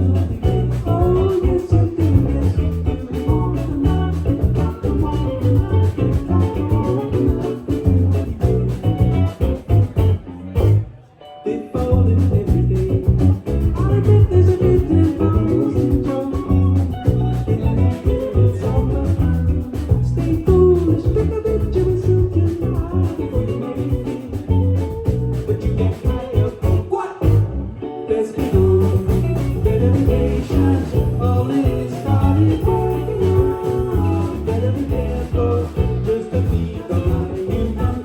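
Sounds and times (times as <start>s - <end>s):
live band playing: 0.0s - 11.0s, 11.8s - 27.6s, 28.3s - 38.0s.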